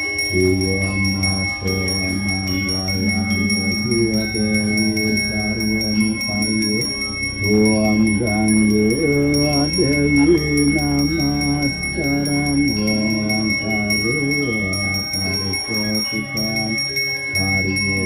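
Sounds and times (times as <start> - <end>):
hand bell ringing: 0.0 - 18.0
man chanting: 0.0 - 18.0.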